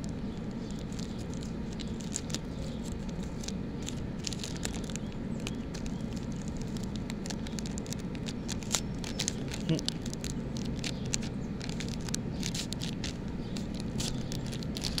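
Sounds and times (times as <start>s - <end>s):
paper mailer crinkling: 0.0s - 15.0s
steady low rumble: 0.0s - 15.0s.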